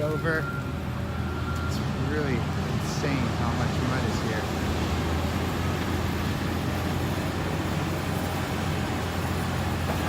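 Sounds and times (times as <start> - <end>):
steady engine drone: 0.0 - 10.0.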